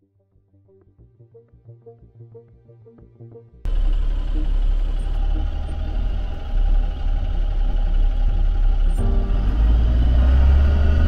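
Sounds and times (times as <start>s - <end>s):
background music: 0.0s - 7.5s, 8.8s - 11.0s.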